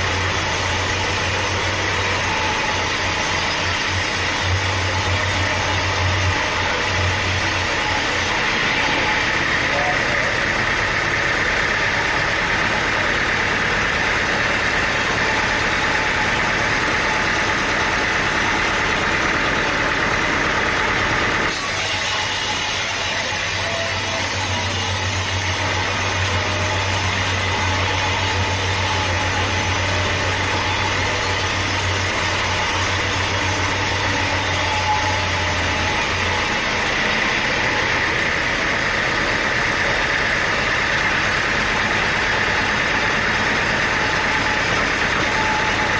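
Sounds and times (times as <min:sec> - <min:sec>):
engine running: 0:00.0 - 0:45.9.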